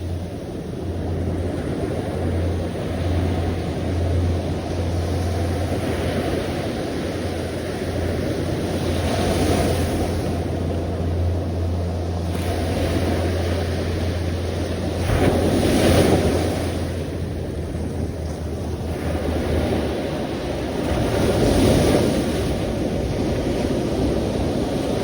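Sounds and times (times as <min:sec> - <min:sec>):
sea waves washing in: 0:00.0 - 0:25.0
wind rumble on microphone: 0:00.0 - 0:25.0.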